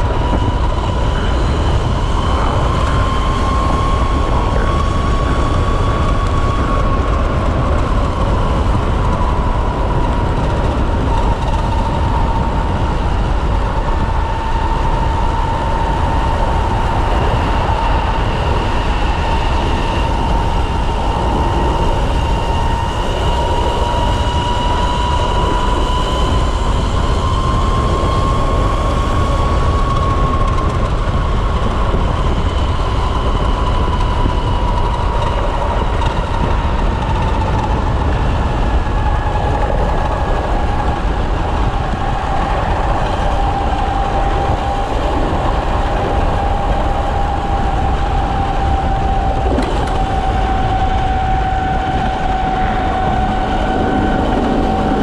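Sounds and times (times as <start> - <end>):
electric motorcycle whine: 0.0 - 55.0
wind rumble on microphone: 0.0 - 55.0.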